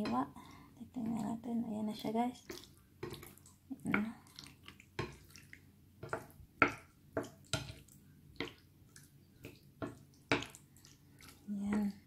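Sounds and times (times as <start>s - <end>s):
wet jelly squelches: 0.0s - 12.0s.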